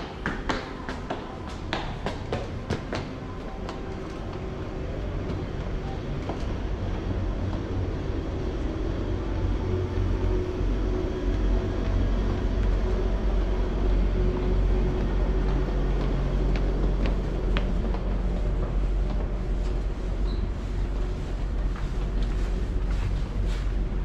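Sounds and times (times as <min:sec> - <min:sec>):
footsteps on wooden decking: 0:00.0 - 0:08.1, 0:11.2 - 0:24.0
train rumbling on tracks: 0:00.0 - 0:24.0.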